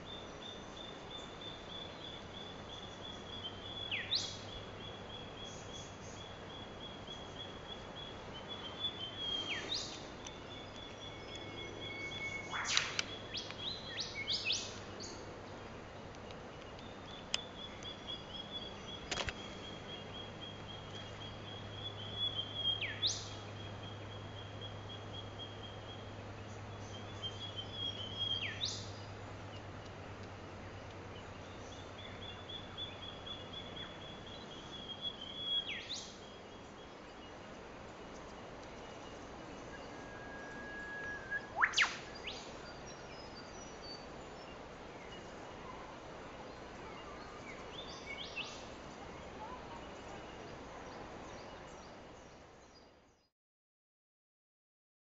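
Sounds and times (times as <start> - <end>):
outdoor hiss: 0.0 - 52.8
birds whistling calls: 0.1 - 15.3, 16.2 - 29.1, 31.2 - 37.4, 38.0 - 51.9.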